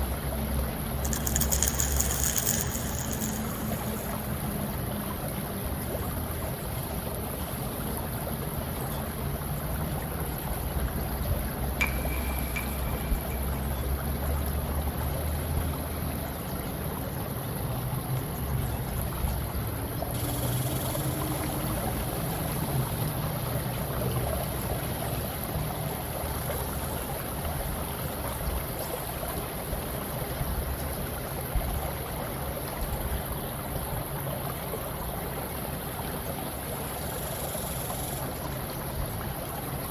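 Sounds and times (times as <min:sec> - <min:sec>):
running water gurgling: 0:00.0 - 0:39.9.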